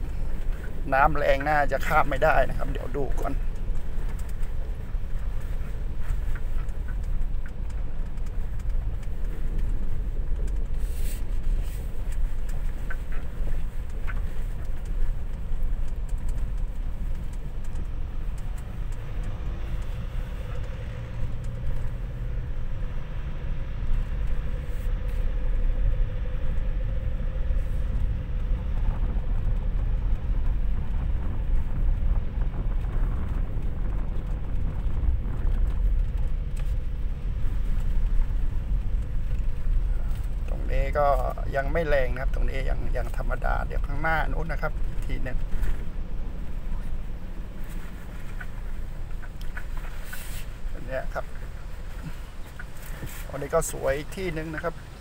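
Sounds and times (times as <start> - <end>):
truck engine and tyres rumbling: 0.0 - 55.0.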